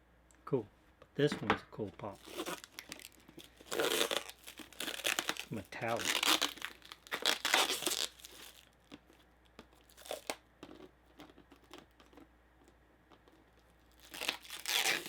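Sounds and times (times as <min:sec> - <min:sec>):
packaging rustling: 0:02.0 - 0:12.2, 0:13.1 - 0:15.0.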